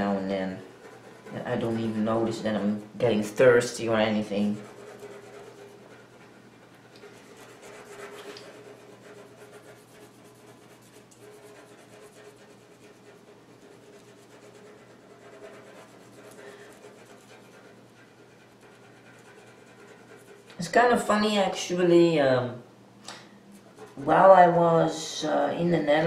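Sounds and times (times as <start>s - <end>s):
pencil scratching on paper: 0.0s - 20.7s, 23.6s - 24.2s.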